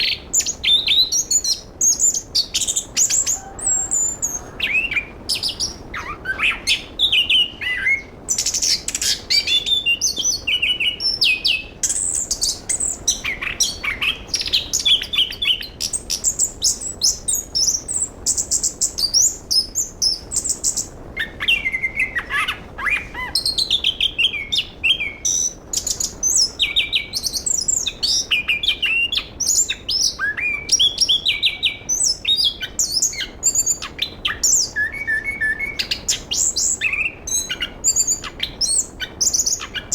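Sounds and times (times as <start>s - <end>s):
thrush singing whistles and trills: 0.0s - 39.9s.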